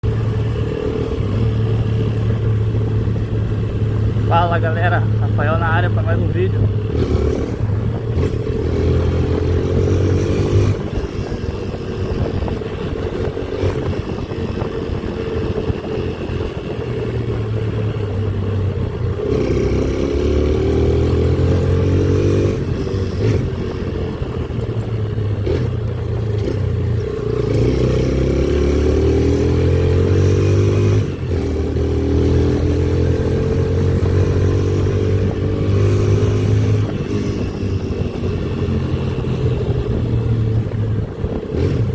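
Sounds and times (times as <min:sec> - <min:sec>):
motorcycle engine revving: 0:00.0 - 0:41.9
road and wind noise: 0:00.0 - 0:41.9.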